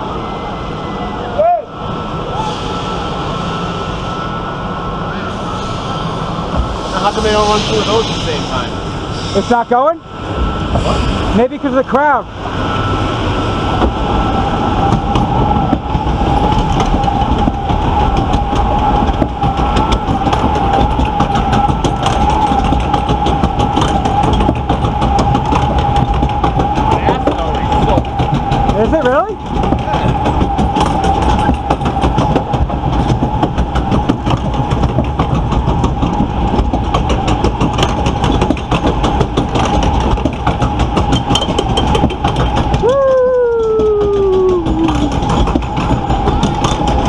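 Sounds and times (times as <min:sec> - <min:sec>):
constant whine: 0:00.0 - 0:47.0
conveyor mechanical clatter and rumble: 0:00.0 - 0:47.0.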